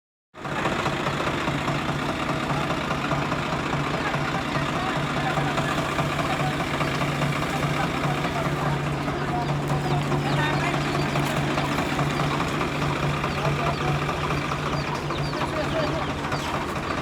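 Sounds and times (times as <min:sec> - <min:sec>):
tractor diesel engine running: 0:00.4 - 0:17.0.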